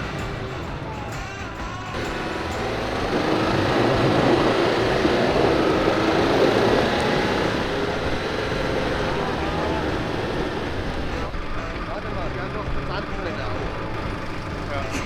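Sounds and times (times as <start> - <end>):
vehicle engine running hard: 0.0 - 15.0.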